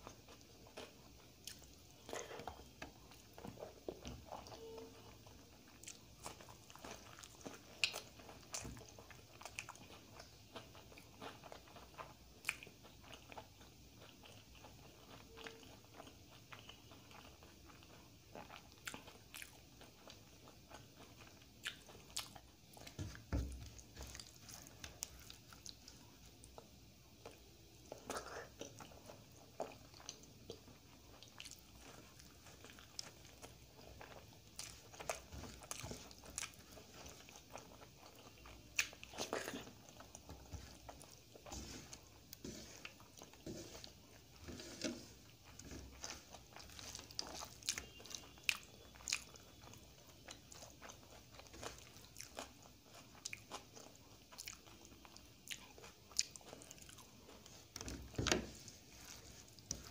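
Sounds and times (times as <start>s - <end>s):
close chewing with wet mouth clicks: 0.0s - 59.9s.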